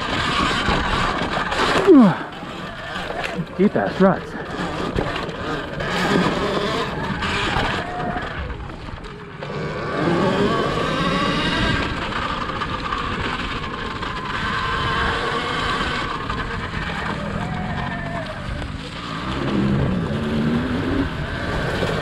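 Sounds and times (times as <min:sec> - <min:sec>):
electric dirt bike motor whine: 0:00.0 - 0:22.0
tyre noise: 0:00.0 - 0:22.0
wind: 0:00.0 - 0:22.0.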